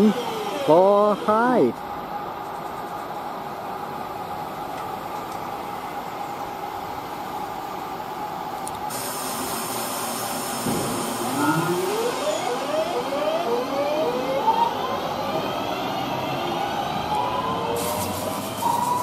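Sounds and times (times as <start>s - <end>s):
electric train motors whining: 0.0s - 2.4s, 3.2s - 19.0s.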